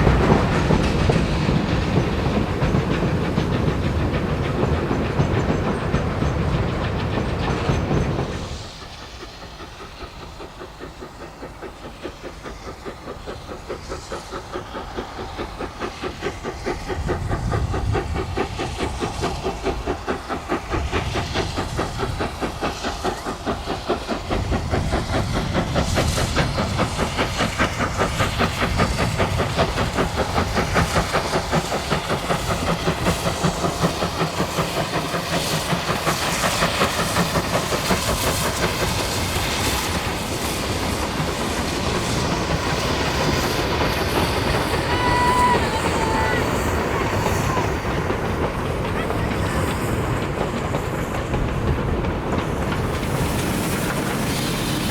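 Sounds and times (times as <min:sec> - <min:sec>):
steam hissing: 0:00.0 - 0:54.9
steam locomotive exhaust beats: 0:00.0 - 0:54.9.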